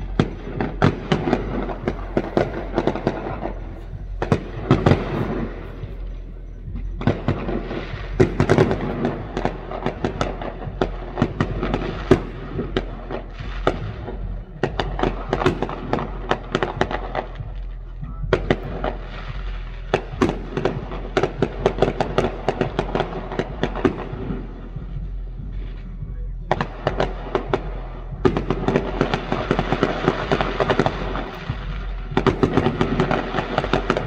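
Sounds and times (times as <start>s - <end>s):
fireworks bangs and crackles: 0.0s - 25.8s, 26.4s - 34.0s.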